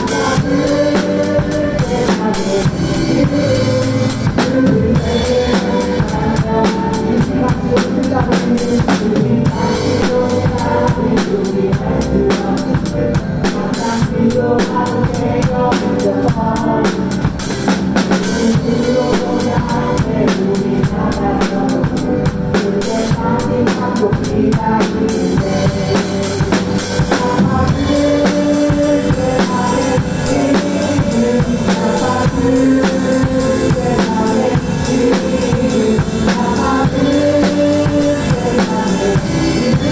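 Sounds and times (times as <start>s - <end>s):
drum kit playing: 0.0s - 39.9s
worship song backing track: 0.0s - 39.9s.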